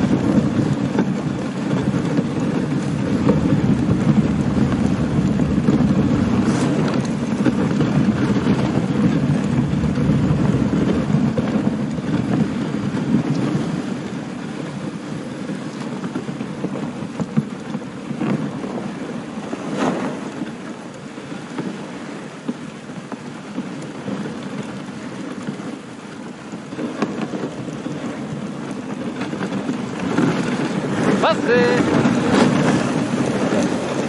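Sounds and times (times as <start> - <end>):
sled jolting knocks: 0.0 - 14.0, 15.5 - 34.0
sled runners scraping snow: 0.0 - 34.0
wind on microphone: 0.0 - 34.0.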